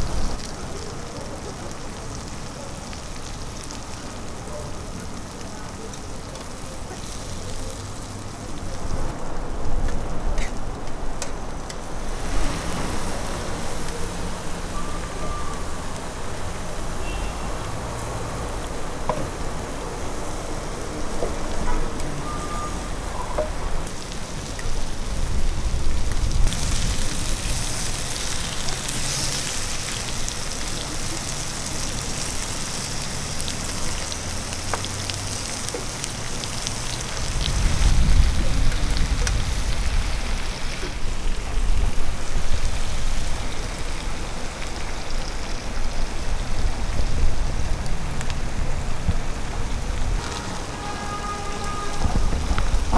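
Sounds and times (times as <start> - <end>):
meat sizzling on a griddle: 0.0 - 52.9.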